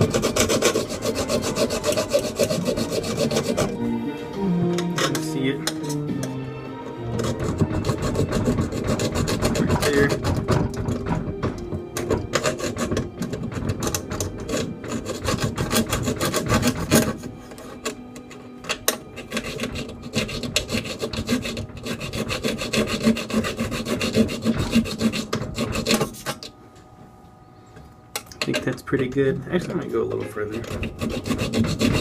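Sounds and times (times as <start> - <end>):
hacksaw rasping: 0.0 - 3.9, 4.8 - 26.5, 30.3 - 32.0.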